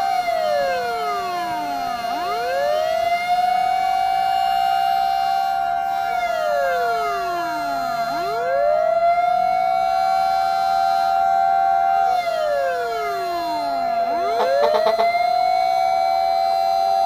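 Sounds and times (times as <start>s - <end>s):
fire truck siren wailing: 0.0s - 17.0s
siren holding steady high note: 0.0s - 17.0s.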